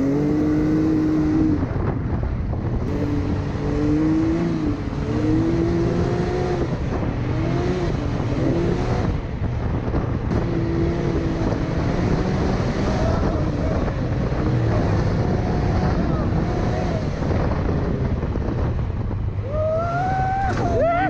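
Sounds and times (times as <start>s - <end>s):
off-road vehicle engine revving: 0.0s - 18.9s.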